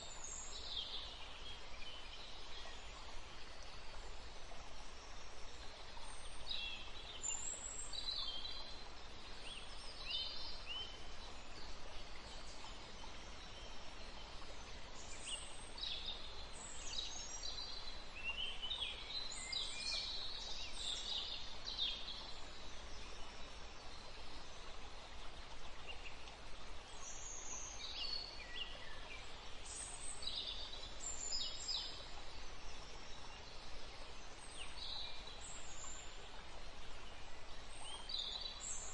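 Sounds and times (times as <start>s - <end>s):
steady low hiss: 0.0s - 38.9s.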